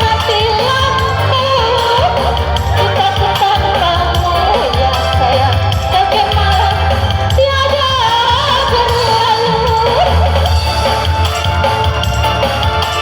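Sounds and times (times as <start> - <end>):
loud pop music with singing: 0.0 - 13.0.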